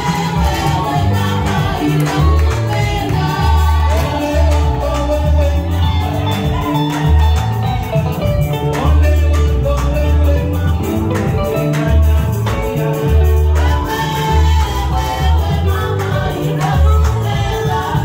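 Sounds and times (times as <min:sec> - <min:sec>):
church band playing: 0:00.0 - 0:18.0
women's group singing gospel: 0:00.0 - 0:18.0.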